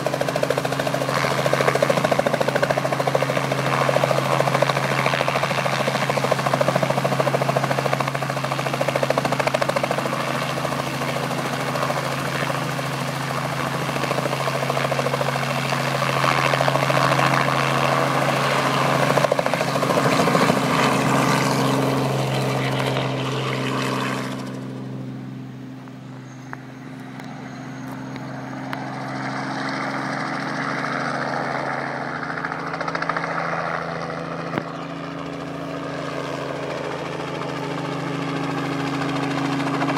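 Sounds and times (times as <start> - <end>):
helicopter rotor blade chop: 0.0 - 25.4, 27.0 - 39.9.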